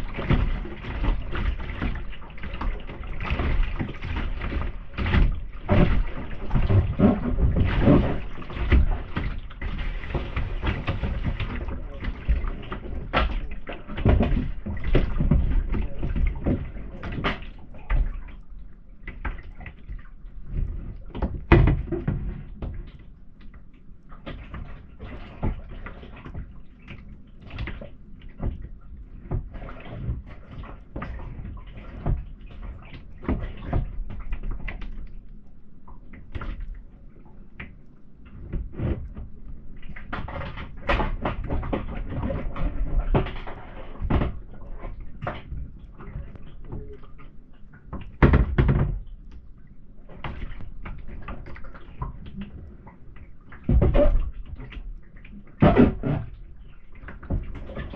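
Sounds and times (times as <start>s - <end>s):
paddle splashes and knocks: 0.0s - 57.9s.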